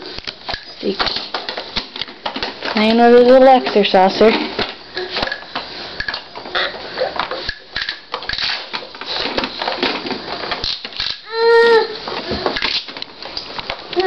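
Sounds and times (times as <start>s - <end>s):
plastic toys clicking and rattling: 0.0s - 14.0s.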